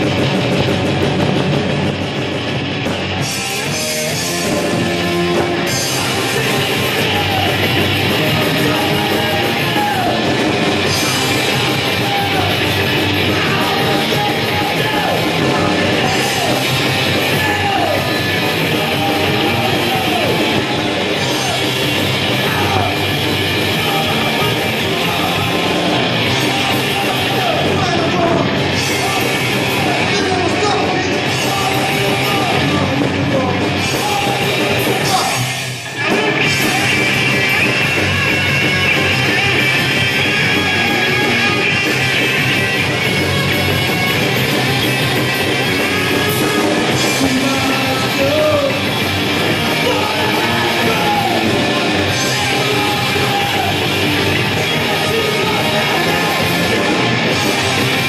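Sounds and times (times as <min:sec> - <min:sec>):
punk rock band playing: 0:00.0 - 0:58.0
man singing: 0:03.6 - 0:42.8, 0:45.6 - 0:58.0.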